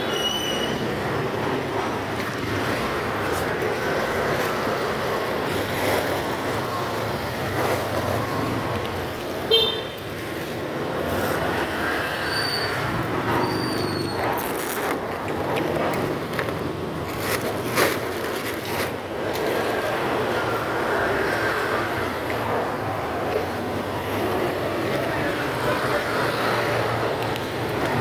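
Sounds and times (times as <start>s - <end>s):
motorcycle road noise: 0.0s - 28.0s
street traffic: 0.0s - 28.0s.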